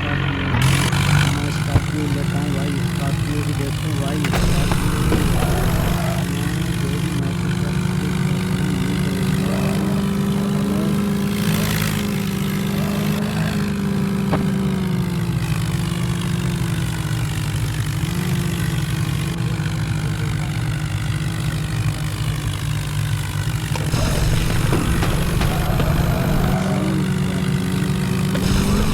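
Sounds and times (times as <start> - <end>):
vehicle engine running at high revs: 0.0 - 28.9.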